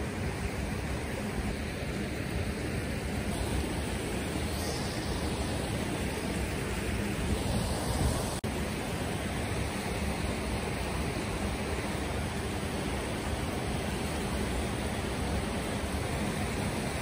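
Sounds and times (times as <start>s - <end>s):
river flowing over rocks: 0.0s - 17.0s.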